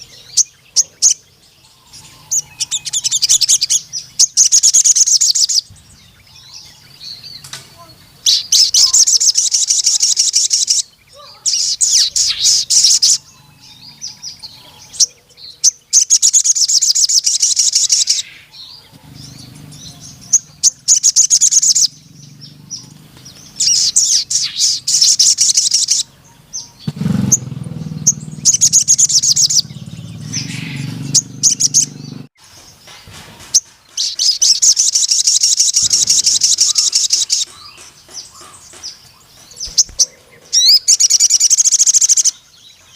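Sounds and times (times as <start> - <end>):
sunbird high trilling song: 0.0 - 42.9.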